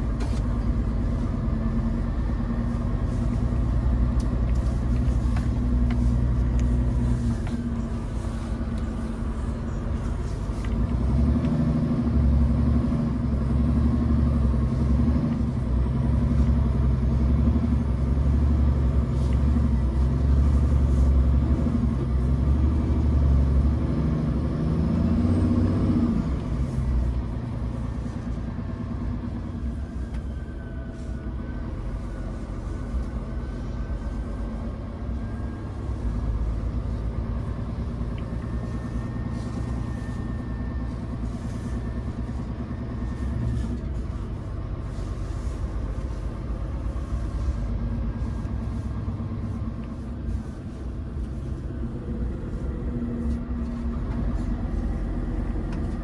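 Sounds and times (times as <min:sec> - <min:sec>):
road and tyre noise: 0:00.0 - 0:56.0
truck diesel engine rumble: 0:00.0 - 0:56.0.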